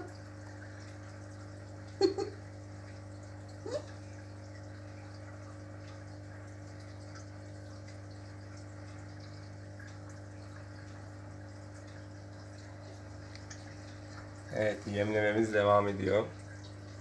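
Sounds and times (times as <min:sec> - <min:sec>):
low pump hum: 0:00.0 - 0:17.0
water trickling and bubbling: 0:00.0 - 0:17.0.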